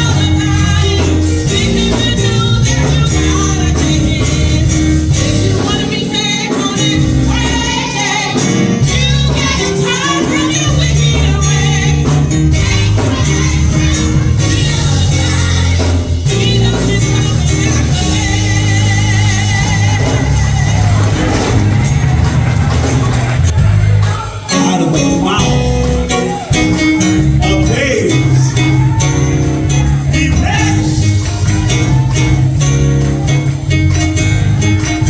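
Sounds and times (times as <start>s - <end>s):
gospel singing over a band: 0.0s - 35.0s.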